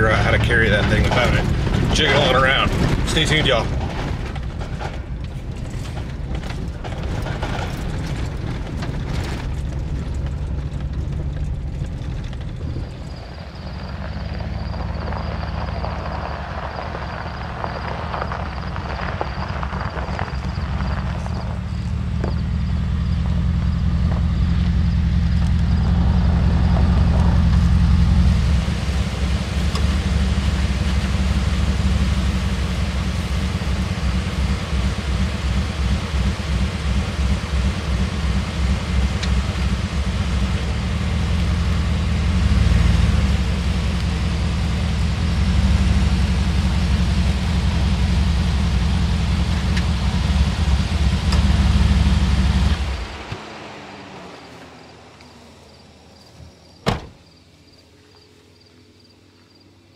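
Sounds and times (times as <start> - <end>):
pickup truck engine idling: 0.0 - 59.6.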